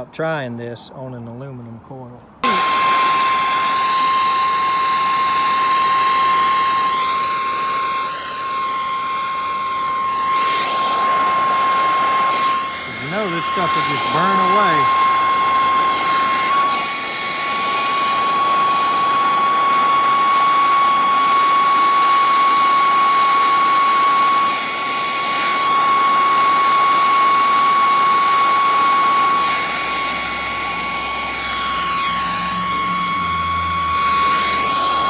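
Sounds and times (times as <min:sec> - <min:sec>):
gas torch flame hissing: 0:02.4 - 0:31.9.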